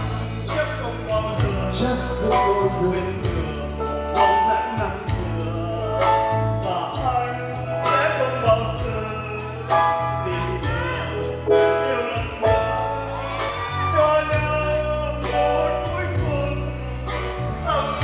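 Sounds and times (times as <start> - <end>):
man singing through microphone: 0.0 - 18.0
steady drum beat: 0.0 - 18.0.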